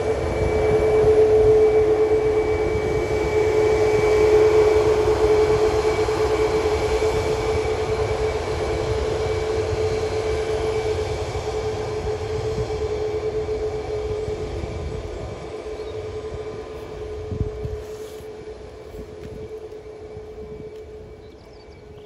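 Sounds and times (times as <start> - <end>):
jet engines whining at taxi: 0.0 - 22.0.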